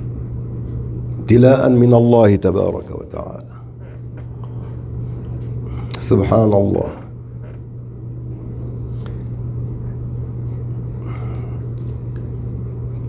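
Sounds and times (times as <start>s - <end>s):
low rumbling background noise: 0.0s - 13.0s
steady low hum: 0.0s - 13.0s.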